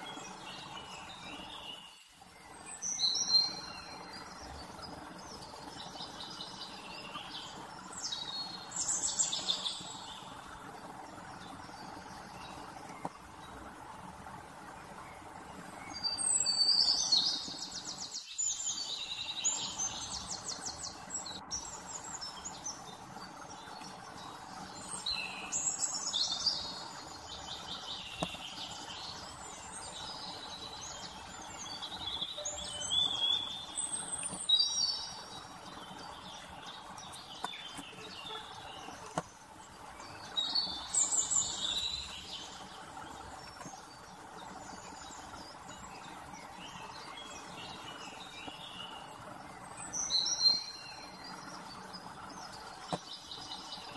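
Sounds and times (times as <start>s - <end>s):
faint background hiss: 0.0s - 53.9s
small birds twittering: 0.0s - 53.9s.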